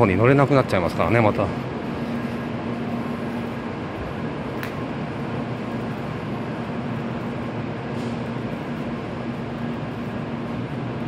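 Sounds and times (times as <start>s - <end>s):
air conditioning rushing: 0.0s - 11.0s
train electrical hum: 0.0s - 11.0s.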